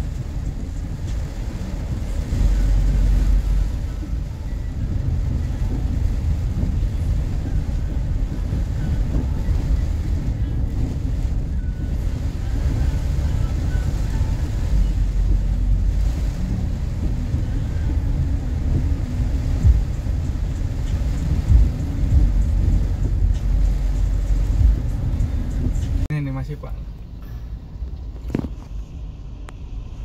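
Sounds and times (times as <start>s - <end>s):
vehicle rumbling over rough ground: 0.0s - 30.0s.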